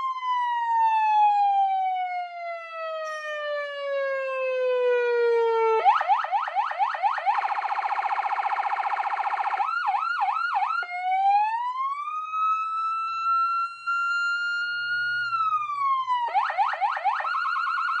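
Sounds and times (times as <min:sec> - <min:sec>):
electronic siren wailing and yelping: 0:00.0 - 0:18.0.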